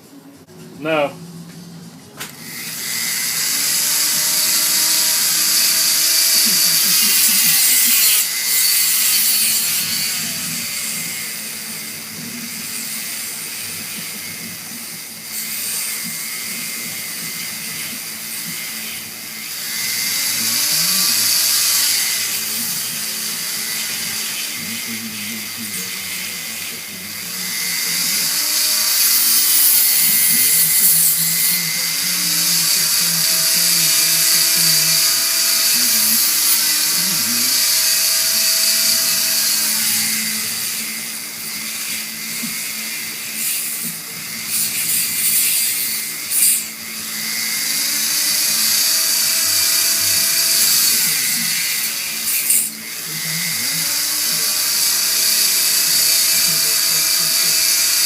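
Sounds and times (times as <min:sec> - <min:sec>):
rotary tool grinding plastic: 0:02.3 - 0:58.0.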